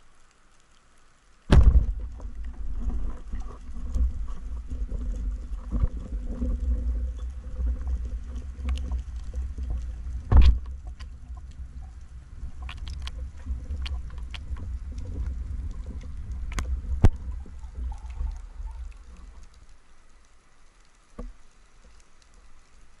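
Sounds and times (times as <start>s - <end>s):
underwater clicks and ticks: 0.0s - 23.0s
underwater rumble of moving water: 0.0s - 23.0s.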